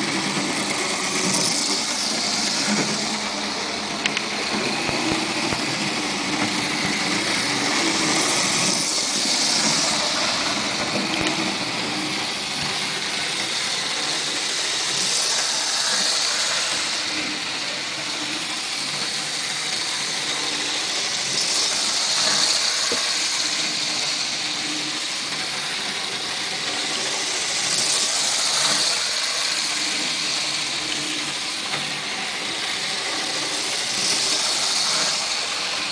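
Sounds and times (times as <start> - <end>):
model train motor whirring: 0.0 - 35.9
model train wheels rattling: 0.0 - 35.9.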